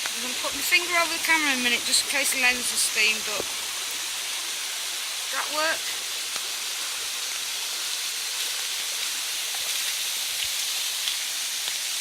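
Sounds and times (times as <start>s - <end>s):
heavy rain hissing: 0.0s - 12.0s
raindrops ticking: 0.0s - 12.0s
waterfall: 0.0s - 12.0s.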